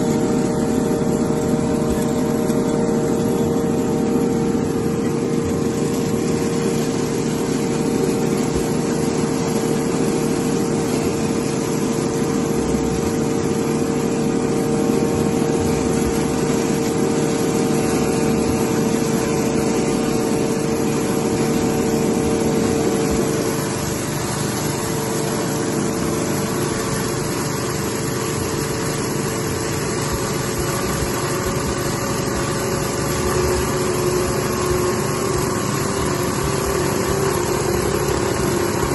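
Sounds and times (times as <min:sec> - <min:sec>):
high machine whine: 0:00.0 - 0:38.9
low machine whine: 0:00.0 - 0:38.9
machine mechanical drone: 0:00.0 - 0:38.9.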